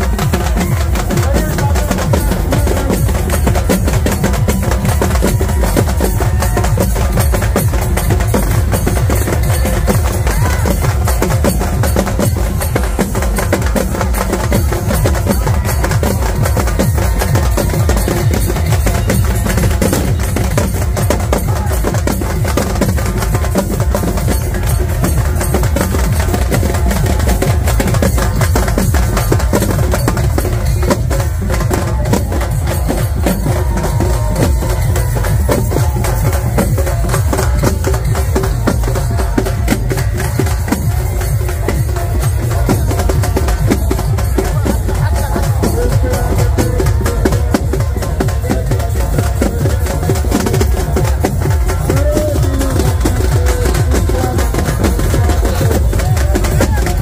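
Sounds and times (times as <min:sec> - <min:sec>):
dance music with heavy bass: 0:00.0 - 0:57.0
fast frame drums: 0:00.0 - 0:57.0.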